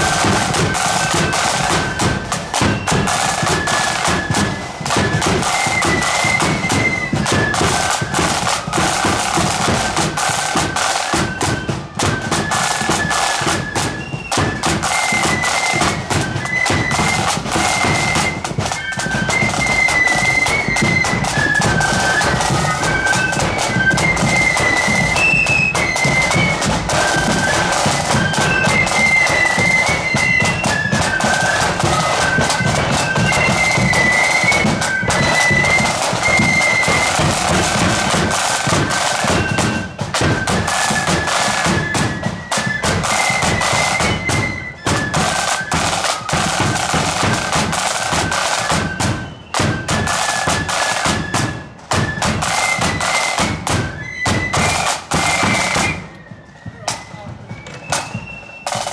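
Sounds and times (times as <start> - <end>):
flutes playing melody: 0.0 - 58.9
snare drums rattling: 0.0 - 58.9.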